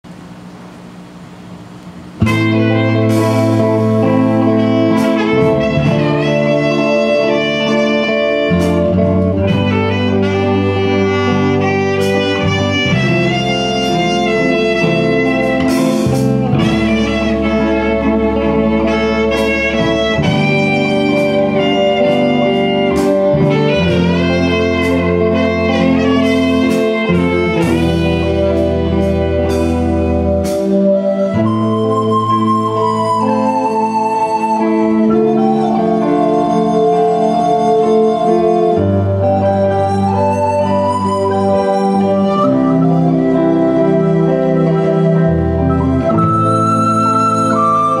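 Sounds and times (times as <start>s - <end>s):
bass line: 0.0s - 48.0s
drum kit: 0.0s - 48.0s
electric guitar: 0.0s - 48.0s
electronic keyboards: 0.0s - 48.0s.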